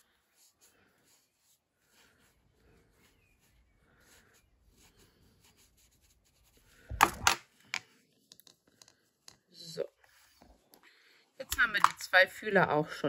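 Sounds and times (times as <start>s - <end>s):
hands rustling yarn: 0.0s - 10.9s.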